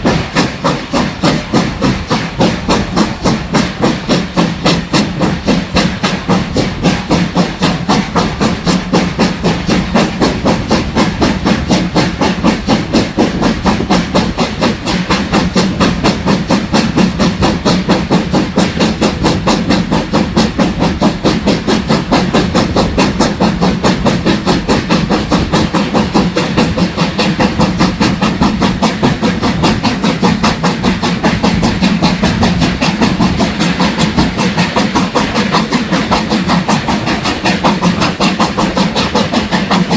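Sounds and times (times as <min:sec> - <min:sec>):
steam hissing: 0:00.0 - 0:39.9
steam locomotive chuffing: 0:00.0 - 0:39.9.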